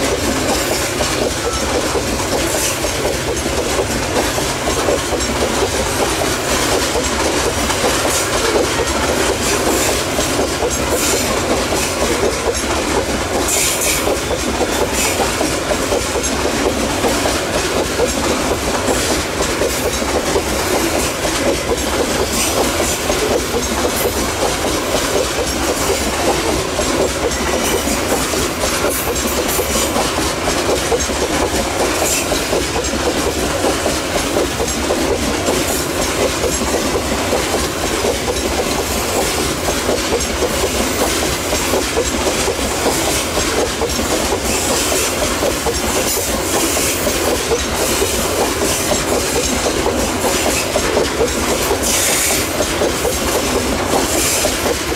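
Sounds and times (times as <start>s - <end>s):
train wheels rumbling on rails: 0.0s - 54.9s
wheels clicking over rail joints: 0.0s - 54.9s.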